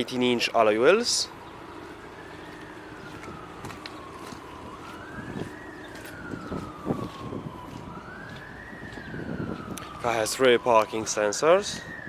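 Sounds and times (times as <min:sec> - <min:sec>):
siren wailing: 0:00.8 - 0:12.0.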